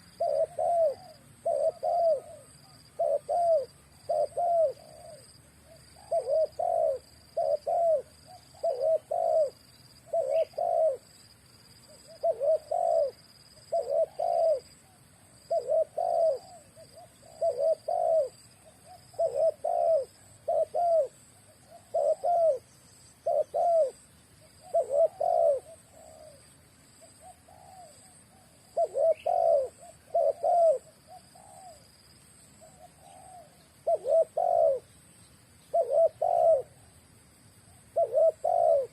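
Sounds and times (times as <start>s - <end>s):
dove cooing: 0.0s - 11.2s, 11.8s - 32.0s, 32.6s - 35.0s, 35.7s - 36.9s, 37.7s - 38.9s.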